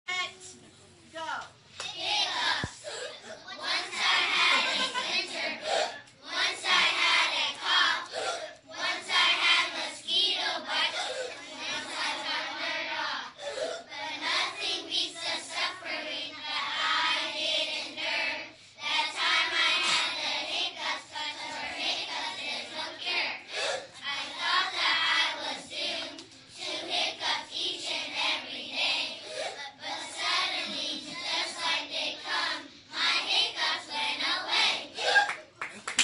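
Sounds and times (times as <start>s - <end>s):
children chanting a poem: 1.8s - 35.3s.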